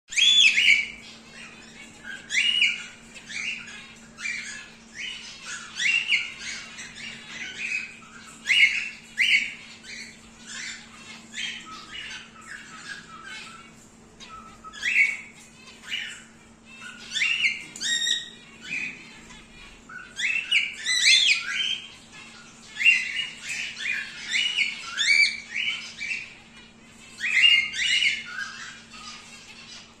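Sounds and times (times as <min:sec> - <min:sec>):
cockatiels chirping and squawking: 0:00.1 - 0:30.0
faint steady hum: 0:00.1 - 0:30.0.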